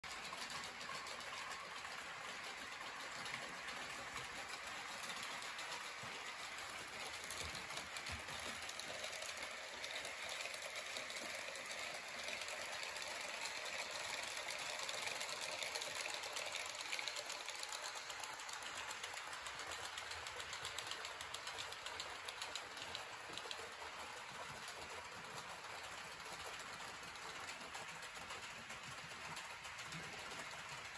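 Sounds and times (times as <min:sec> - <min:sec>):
fine rapid ticking: 0:00.1 - 0:30.9
model train motor whirr: 0:00.1 - 0:30.9.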